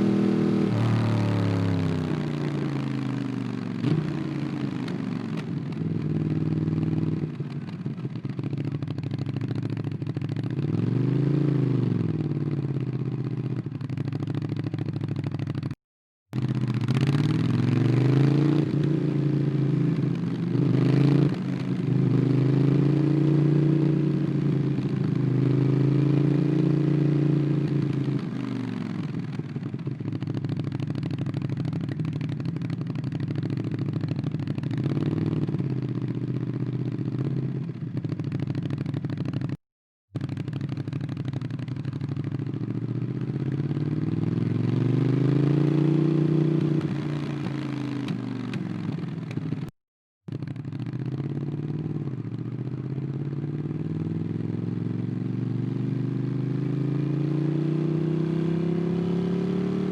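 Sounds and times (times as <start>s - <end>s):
motorcycle engine revving: 0.0s - 15.8s, 16.4s - 39.6s, 40.2s - 49.7s, 50.3s - 59.9s.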